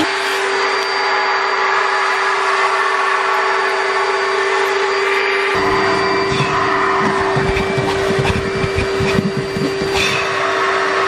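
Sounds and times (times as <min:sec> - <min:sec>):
car wash vacuum running: 0:00.0 - 0:11.0.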